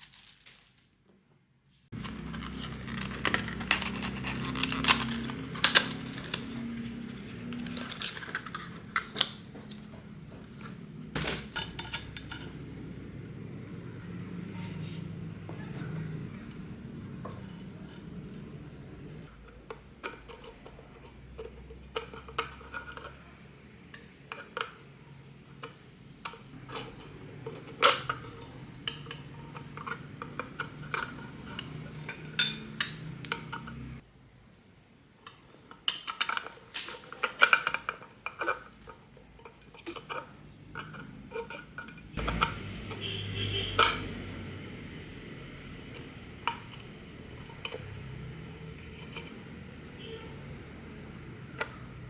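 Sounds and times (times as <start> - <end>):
dishes and glassware clinking: 2.0 - 34.0, 35.3 - 50.2.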